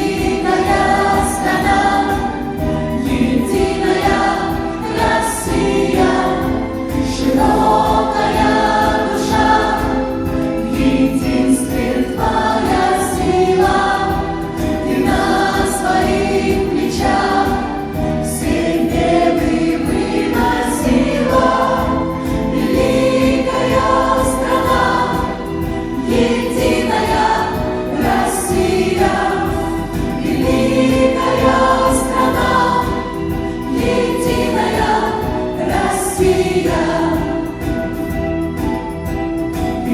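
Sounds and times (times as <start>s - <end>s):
choir singing: 0.0s - 39.9s
instrumental backing music: 0.0s - 39.9s.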